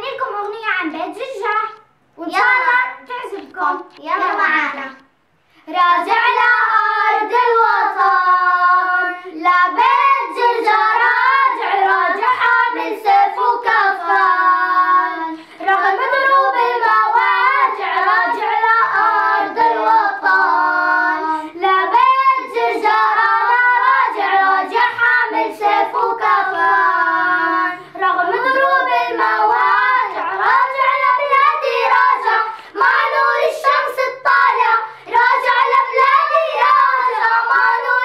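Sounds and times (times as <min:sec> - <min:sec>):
girls singing unaccompanied: 0:01.1 - 0:38.0.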